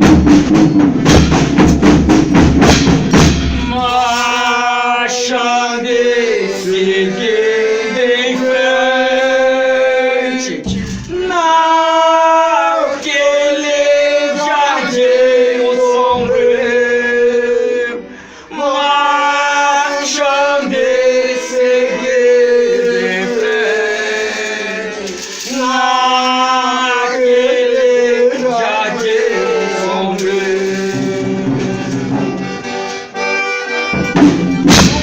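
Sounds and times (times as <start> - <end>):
group singing religious verse: 3.6 - 32.7.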